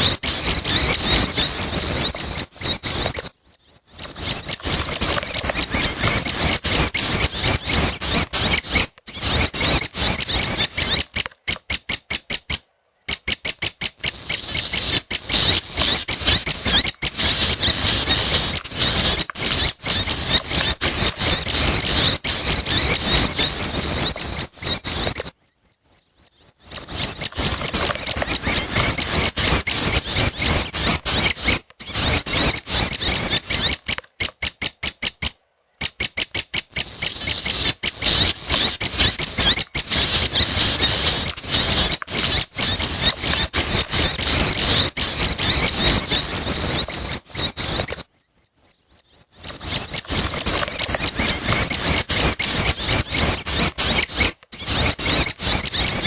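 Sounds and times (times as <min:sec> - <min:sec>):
bird chicks begging chatter: 0:00.0 - 0:56.0.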